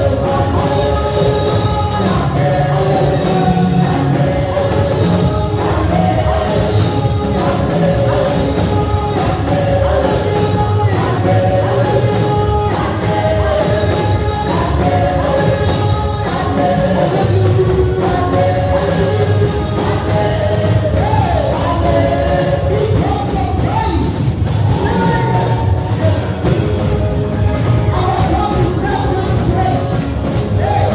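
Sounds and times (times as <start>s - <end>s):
band with steady low beat: 0.0s - 30.9s
gospel choir singing: 0.0s - 30.9s.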